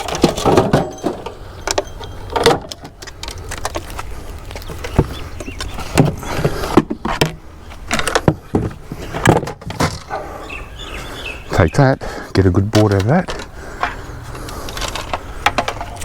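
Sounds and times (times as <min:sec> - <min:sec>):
junk knocking and rustling: 0:00.0 - 0:10.4, 0:12.2 - 0:16.0.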